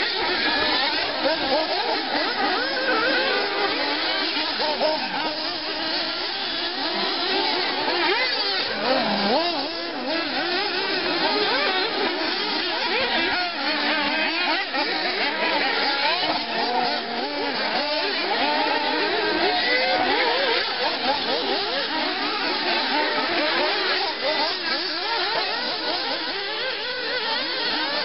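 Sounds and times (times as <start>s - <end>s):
rc buggy engines whining: 0.0s - 28.0s.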